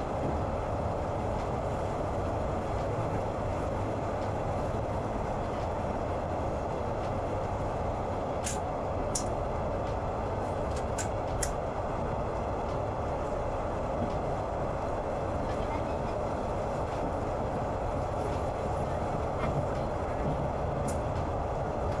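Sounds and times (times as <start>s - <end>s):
train rumble and hiss: 0.0s - 22.0s.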